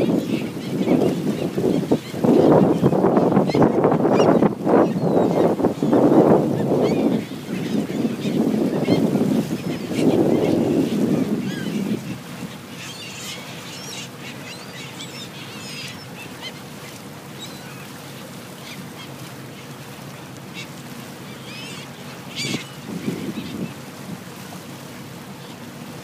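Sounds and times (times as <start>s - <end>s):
gulls calling: 0.0s - 25.8s.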